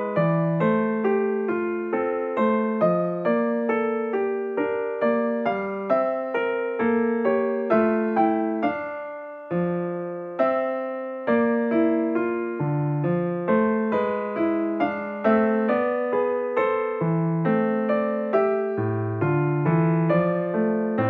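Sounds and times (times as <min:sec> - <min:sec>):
gentle keyboard chords: 0:00.0 - 0:21.0.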